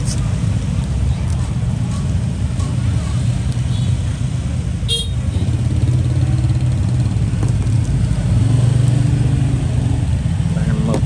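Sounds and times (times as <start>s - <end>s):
motorbikes: 0.0s - 11.0s
road traffic rumble: 0.0s - 11.0s.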